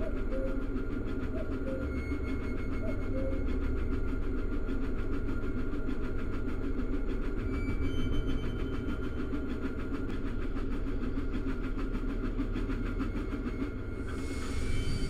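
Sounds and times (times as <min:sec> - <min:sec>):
miniature railway engine running: 0:00.0 - 0:15.0.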